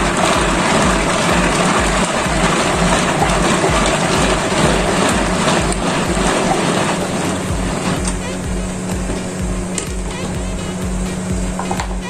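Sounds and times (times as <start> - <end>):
food chopper running: 0.0 - 12.0.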